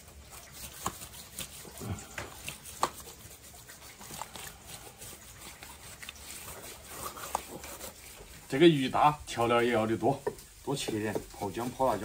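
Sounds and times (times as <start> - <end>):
hands rubbing slimy fish skin: 0.0 - 12.0.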